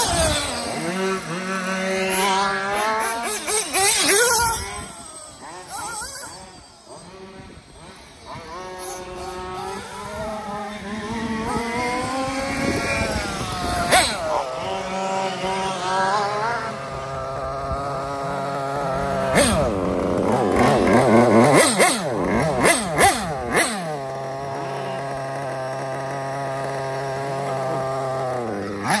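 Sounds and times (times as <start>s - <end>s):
nitro engine revving and idling: 0.0s - 29.0s.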